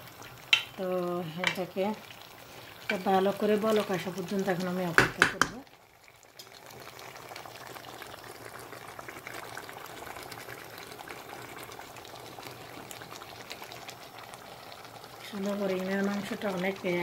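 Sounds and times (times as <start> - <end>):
thick curry bubbling in a pot: 0.0 - 17.0.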